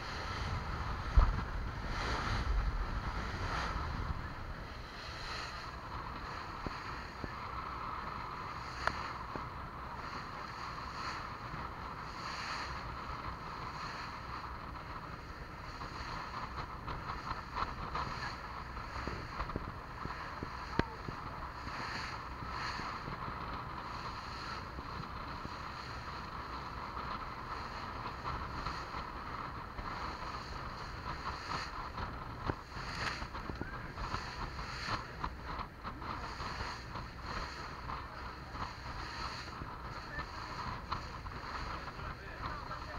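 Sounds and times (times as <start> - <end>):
motorboat engine and water rush: 0.0 - 42.9
wind on microphone: 0.0 - 42.9.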